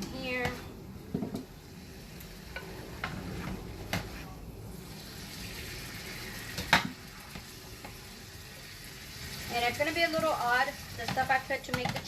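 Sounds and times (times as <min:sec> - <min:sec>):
steady hiss from stove: 0:00.0 - 0:12.0.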